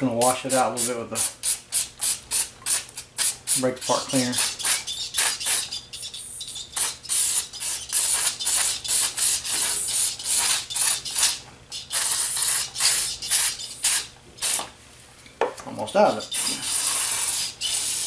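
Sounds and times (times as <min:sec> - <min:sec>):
aerosol spray hissing bursts: 0:00.8 - 0:14.7, 0:16.3 - 0:18.0.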